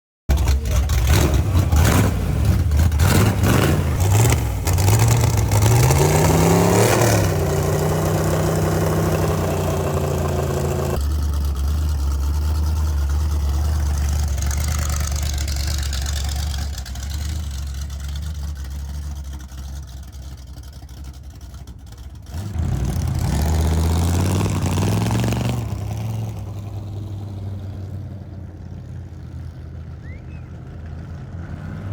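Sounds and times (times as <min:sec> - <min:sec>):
engine revving and idling: 0:00.3 - 0:31.9.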